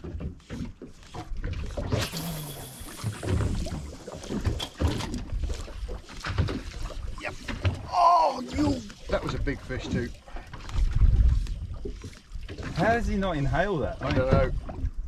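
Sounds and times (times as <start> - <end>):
water lapping against boat hull: 0.0 - 15.0
splashing wash: 1.8 - 14.8.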